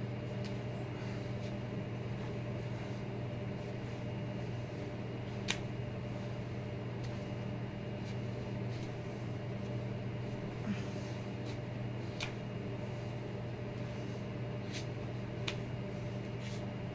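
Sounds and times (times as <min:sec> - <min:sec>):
appliance mechanical hum: 0:00.0 - 0:16.9.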